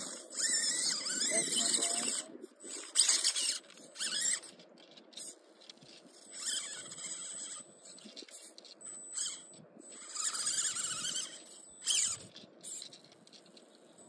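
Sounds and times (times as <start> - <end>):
electric drivetrain whining: 0.0 - 13.8.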